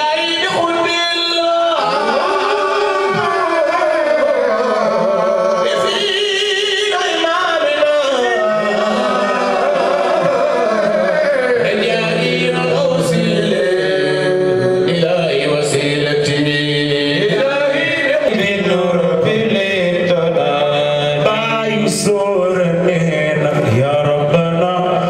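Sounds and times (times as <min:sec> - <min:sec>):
man singing lead melody: 0:00.0 - 0:25.0.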